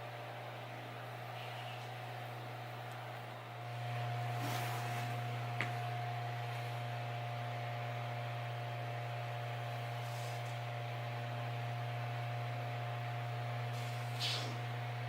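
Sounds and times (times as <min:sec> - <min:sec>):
motor humming with whine: 0:00.0 - 0:15.0.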